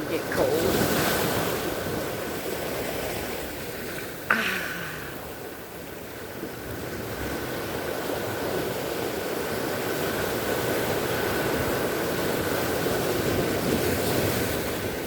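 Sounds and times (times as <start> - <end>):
ocean surf washing ashore: 0.0 - 15.0.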